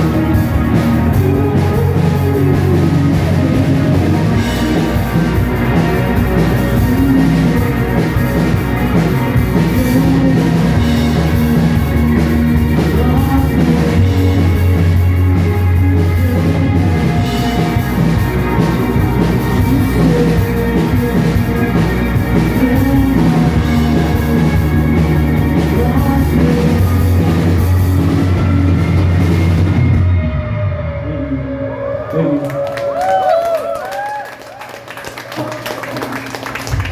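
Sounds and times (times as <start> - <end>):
drum kit: 0.0 - 30.9, 35.3 - 36.9
live rock band playing: 0.0 - 31.2
long held bass notes: 0.0 - 32.6.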